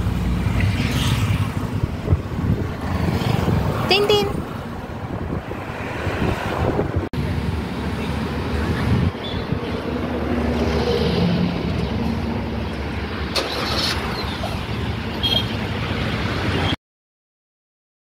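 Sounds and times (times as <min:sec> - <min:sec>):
road traffic rumble: 0:00.0 - 0:16.8.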